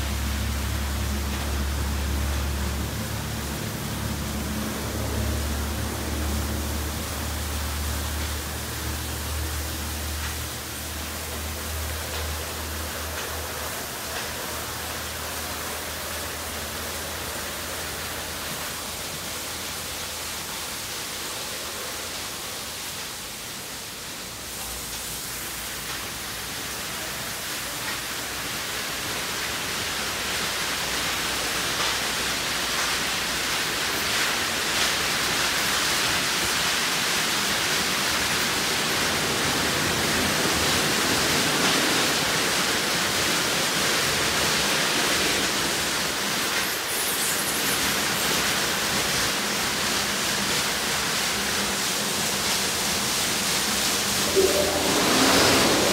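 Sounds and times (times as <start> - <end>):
car wash water jets hissing: 0.0 - 55.9.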